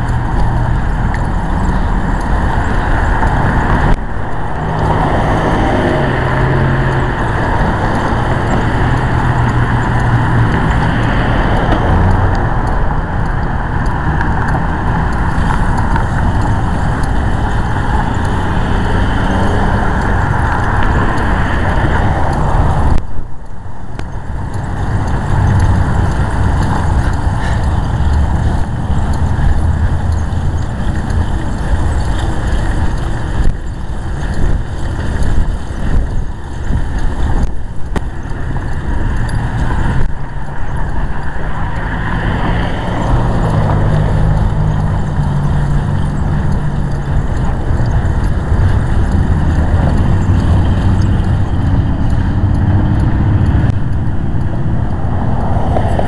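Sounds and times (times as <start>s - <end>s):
vehicle rumble and road noise: 0.0s - 56.0s.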